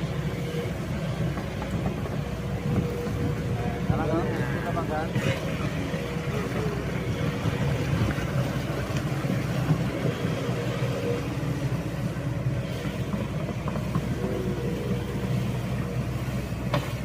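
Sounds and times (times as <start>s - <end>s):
diesel engine running steadily: 0.0s - 17.0s.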